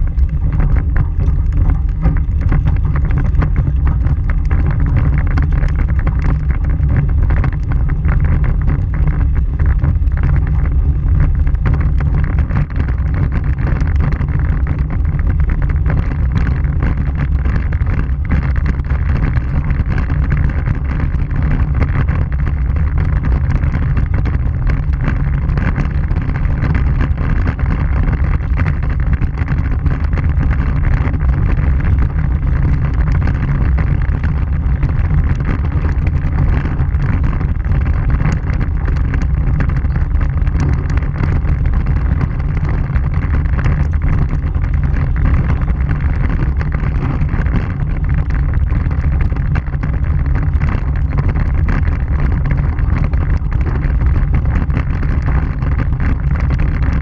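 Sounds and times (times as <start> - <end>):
tyre and road rumble: 0.0 - 57.0
wind on microphone: 0.0 - 57.0.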